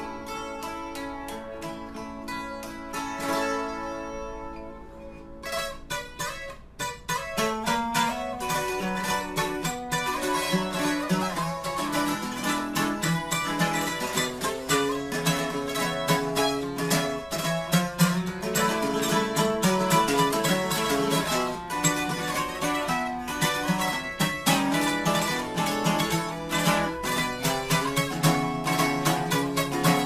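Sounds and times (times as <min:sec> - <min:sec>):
picked acoustic guitar lead: 0:00.0 - 0:30.0
rhythm acoustic guitar: 0:00.0 - 0:30.0.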